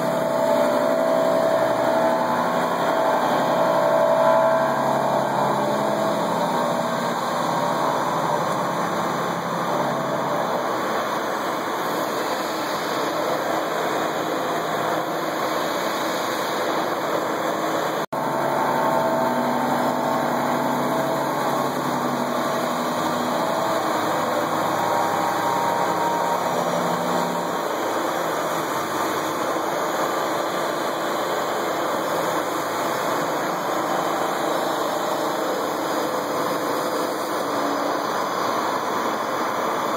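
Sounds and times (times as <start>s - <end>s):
low hum: 0.0s - 39.7s
milling machine cutting metal: 0.0s - 39.9s.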